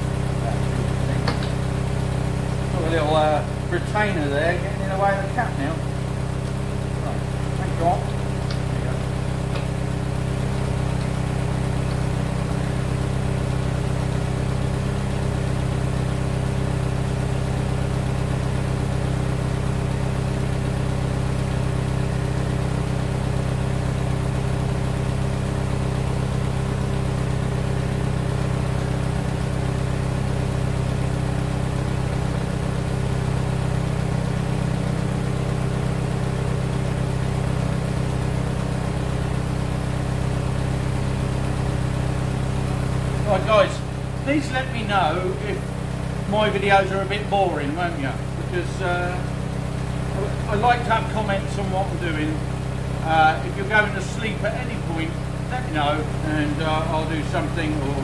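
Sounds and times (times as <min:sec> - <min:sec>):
jeep engine idling: 0:00.0 - 0:58.0.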